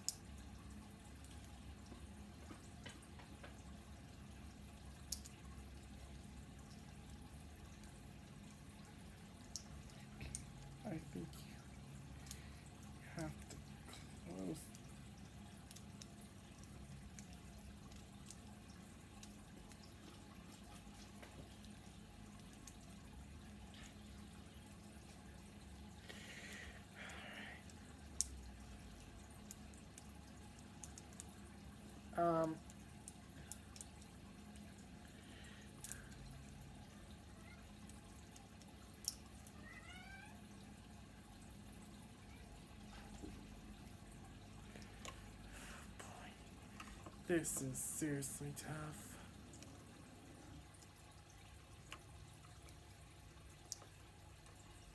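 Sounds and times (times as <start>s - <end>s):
low room hum: 0.0s - 54.9s.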